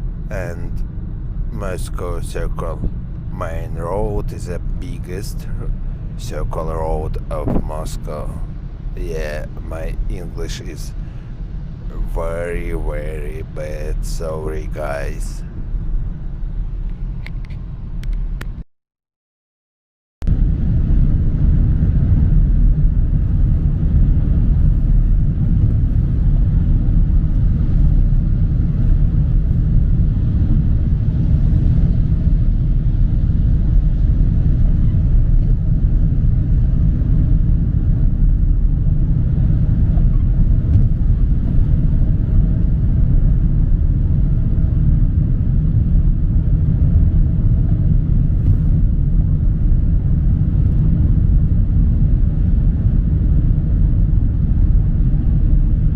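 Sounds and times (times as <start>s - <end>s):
road and engine rumble in car: 0.0s - 18.6s, 20.3s - 55.9s.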